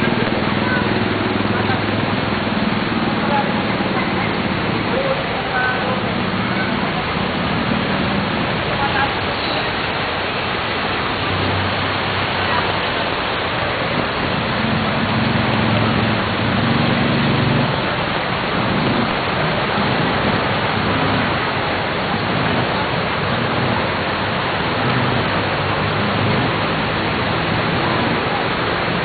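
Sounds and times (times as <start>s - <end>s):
fast-flowing floodwater: 0.0s - 29.0s
rain: 0.0s - 29.0s.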